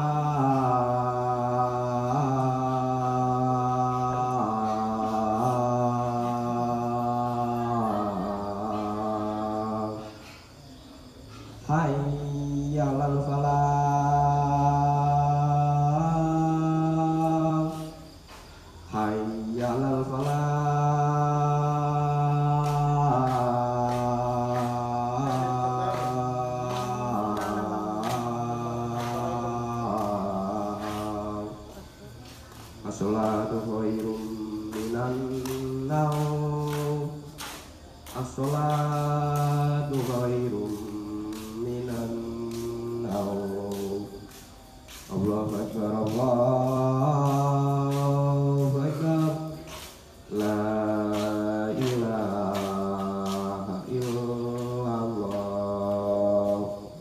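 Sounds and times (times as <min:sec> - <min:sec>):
man chanting held notes: 0:00.0 - 0:57.0.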